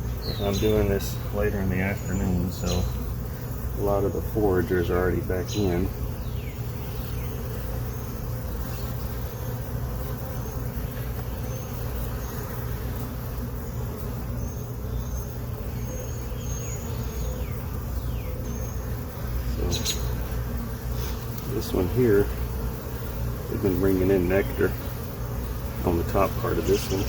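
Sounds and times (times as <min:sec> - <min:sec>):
bee falling whine: 0:00.0 - 0:27.0
bees buzzing: 0:00.0 - 0:27.0.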